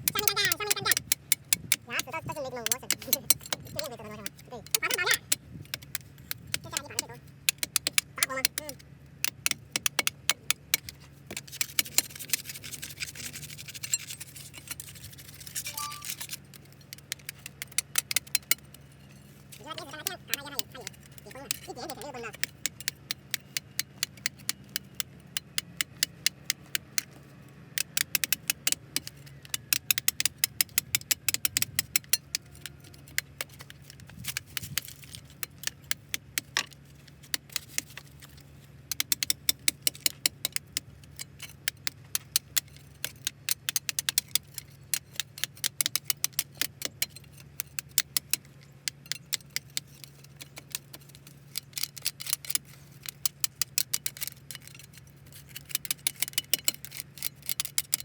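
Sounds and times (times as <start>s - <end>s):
sharp metallic clicks of hand tools: 0.0s - 58.0s.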